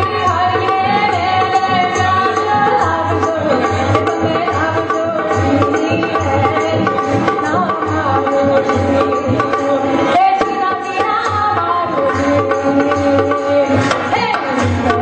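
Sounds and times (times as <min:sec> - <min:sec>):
tabla rhythm: 0:00.0 - 0:15.0
woman singing folk song: 0:00.0 - 0:15.0.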